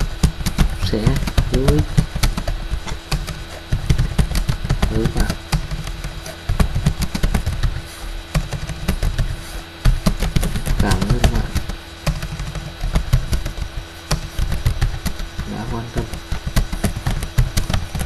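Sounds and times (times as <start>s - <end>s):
keyboard typing: 0.0s - 18.0s
steady low hum: 0.0s - 18.0s.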